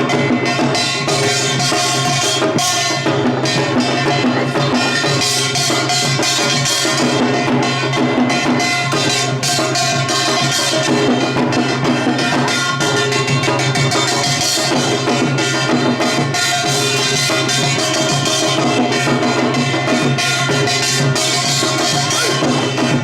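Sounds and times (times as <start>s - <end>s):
clanging small brass gongs: 0.0s - 23.0s
hourglass and barrel drums: 0.0s - 23.0s.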